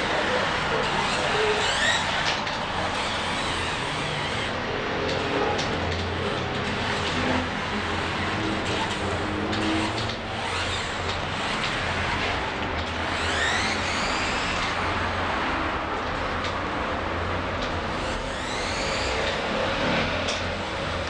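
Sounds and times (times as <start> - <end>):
road traffic noise: 0.0 - 21.0
small gearmotors whirring: 0.0 - 21.0.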